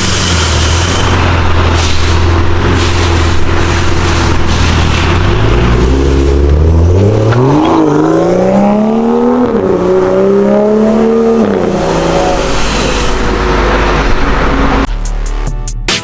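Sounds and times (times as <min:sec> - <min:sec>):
car engine accelerating hard: 0:00.0 - 0:14.9.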